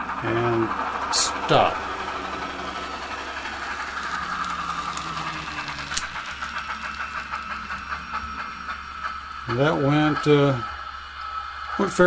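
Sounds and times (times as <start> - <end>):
steady low hum: 0.0 - 12.0
steam locomotive chuffing: 0.0 - 12.0.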